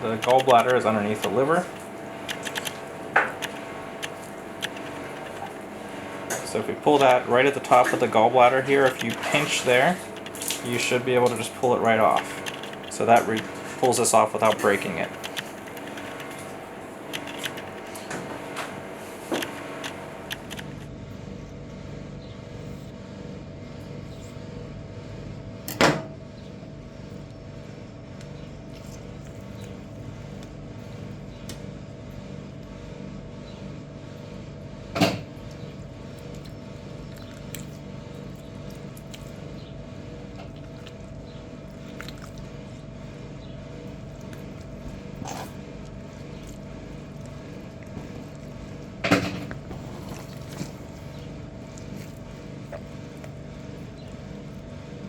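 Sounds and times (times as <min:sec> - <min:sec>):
mechanical hum: 0:00.0 - 0:55.0.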